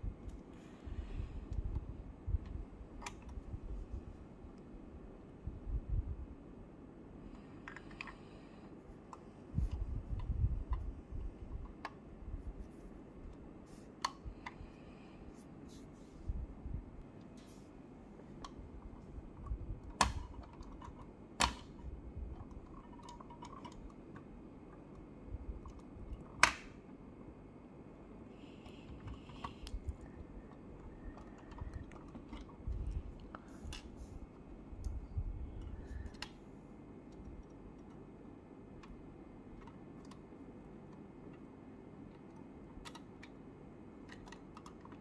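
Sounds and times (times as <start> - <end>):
low room hum: 0.0 - 45.0.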